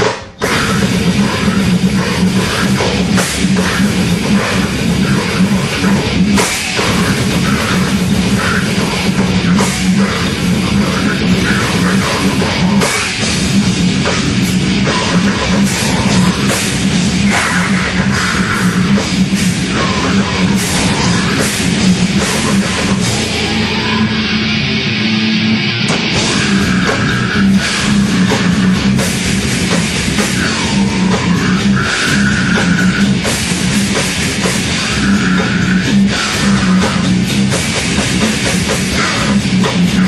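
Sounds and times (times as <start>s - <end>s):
heavy metal band playing: 0.0s - 40.0s.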